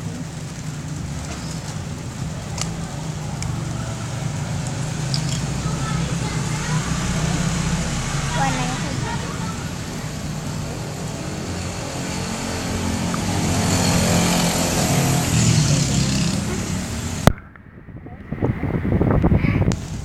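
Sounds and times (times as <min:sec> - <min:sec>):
vehicle engine running: 0:00.0 - 0:17.5.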